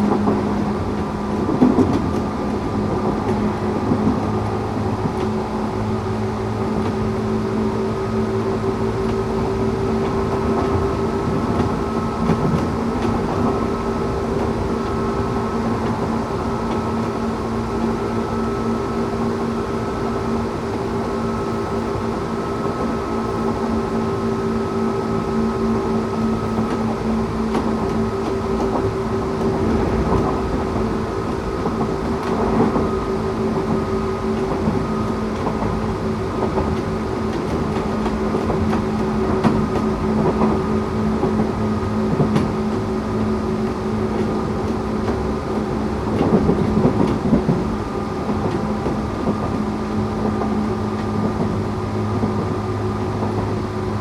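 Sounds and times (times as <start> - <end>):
electric train motor hum: 0.0 - 54.0
wheel and track rumble: 0.0 - 54.0.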